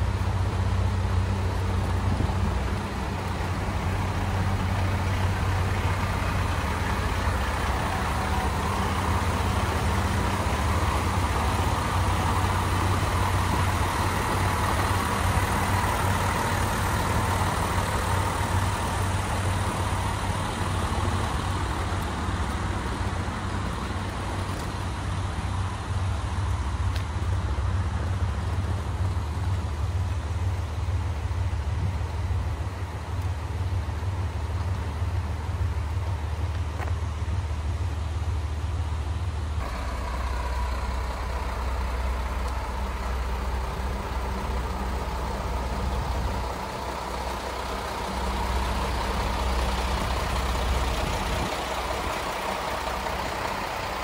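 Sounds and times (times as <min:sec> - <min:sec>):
diesel railcar engines idling: 0:00.0 - 0:54.0.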